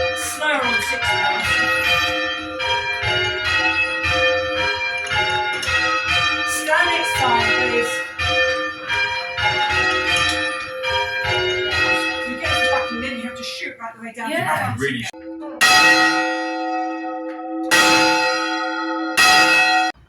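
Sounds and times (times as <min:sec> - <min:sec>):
church bells ringing changes: 0:00.0 - 0:14.2, 0:14.8 - 0:20.0.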